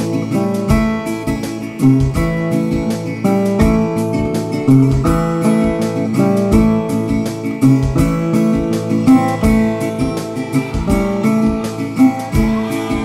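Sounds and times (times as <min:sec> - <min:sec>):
strummed guitar country music: 0:00.0 - 0:13.0.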